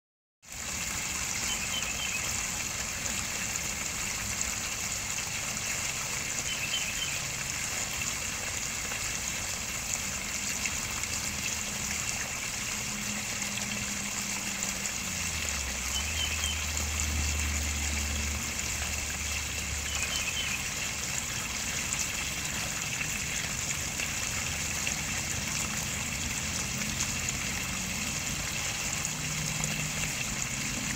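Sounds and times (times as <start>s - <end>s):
water trickling into a pond: 0.4s - 30.9s.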